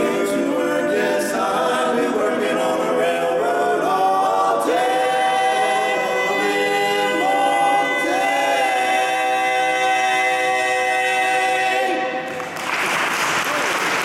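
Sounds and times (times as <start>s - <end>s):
male quartet singing a cappella: 0.0s - 12.2s.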